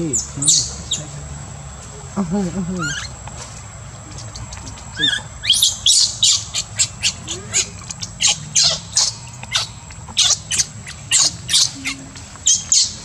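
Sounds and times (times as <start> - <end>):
baby monkey screeching: 0.0 - 1.1, 2.6 - 3.4, 4.0 - 13.0.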